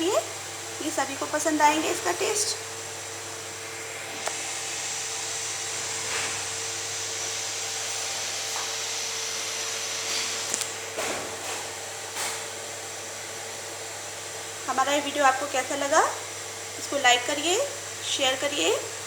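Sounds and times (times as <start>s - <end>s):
machine whirring and hissing: 0.0s - 19.0s.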